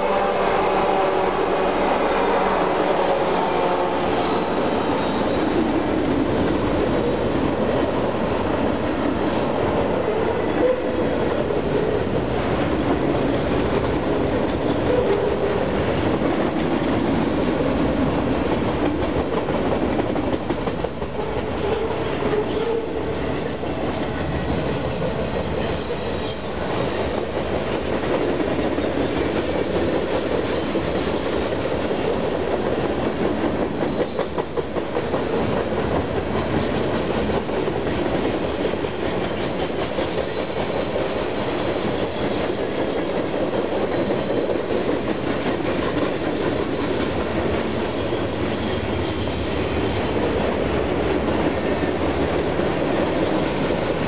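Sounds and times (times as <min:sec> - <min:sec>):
train wheels rumbling on rail: 0:00.0 - 0:54.0
clickety-clack over rail joints: 0:05.0 - 0:54.0.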